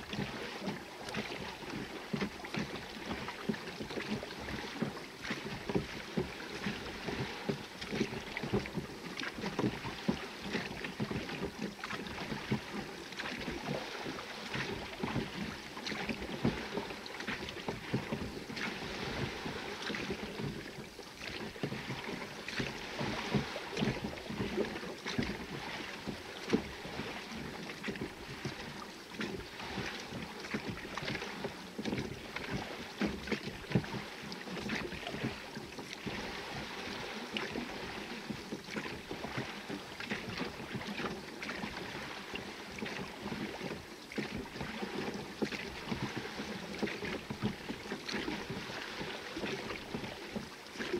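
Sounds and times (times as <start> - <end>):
oar strokes knocking and splashing: 0.0 - 50.9
water splashing against hull: 0.0 - 50.9.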